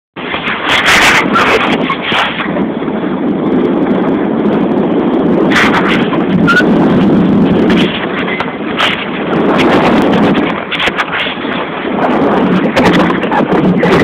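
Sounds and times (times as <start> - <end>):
wind buffeting microphone: 0.2 - 14.0.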